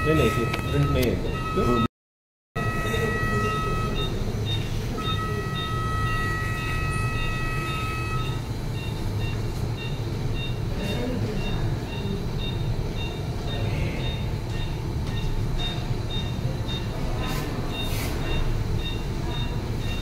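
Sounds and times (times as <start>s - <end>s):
long electronic tones: 0.0s - 1.9s, 2.6s - 20.0s
short electronic beeps: 0.0s - 1.9s, 2.6s - 20.0s
steady low hum: 2.6s - 20.0s.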